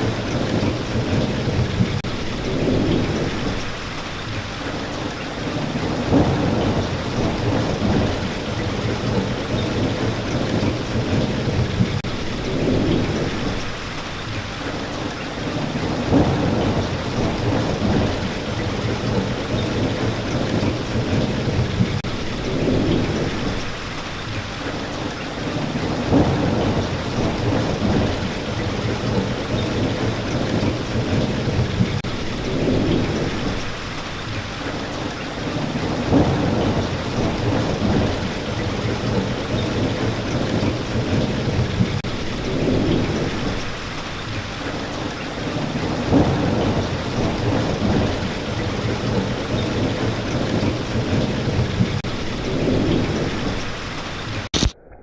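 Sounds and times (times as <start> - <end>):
rolling thunder: 0.0 - 54.5
heavy rain: 0.0 - 54.8.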